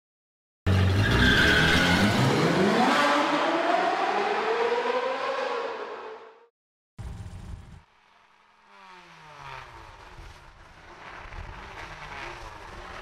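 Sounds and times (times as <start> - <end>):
race car engine accelerating: 0.7 - 13.0.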